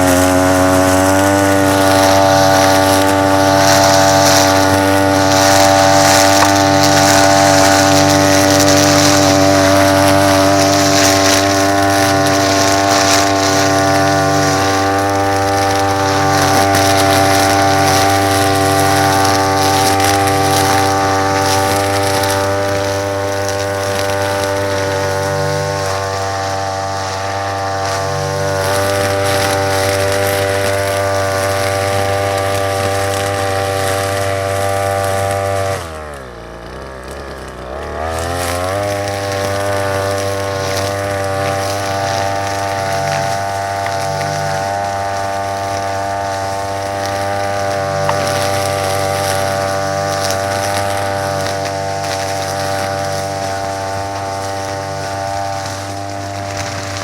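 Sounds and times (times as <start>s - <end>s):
brush cutter engine running: 0.0s - 57.0s.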